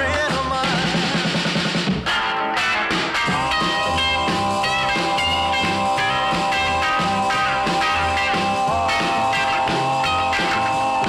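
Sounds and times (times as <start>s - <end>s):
rock and roll instrumental: 0.0s - 11.0s.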